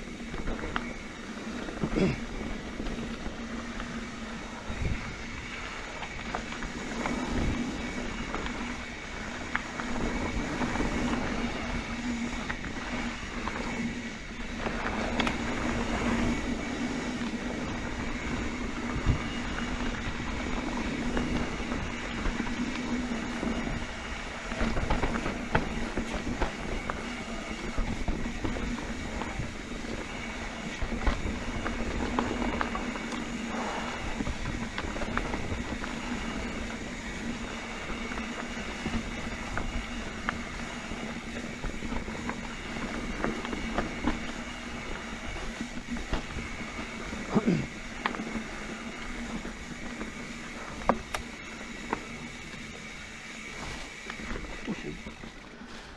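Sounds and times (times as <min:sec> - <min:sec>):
bike tyres rolling and rattling: 0:00.0 - 0:55.9.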